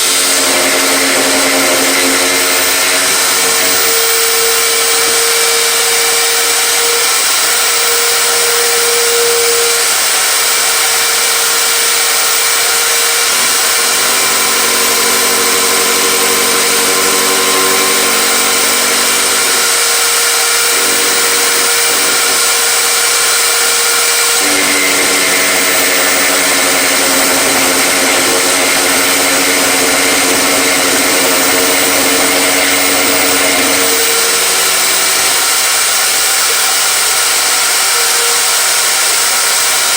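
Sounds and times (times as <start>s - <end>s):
electric power tool running: 0.0s - 39.9s.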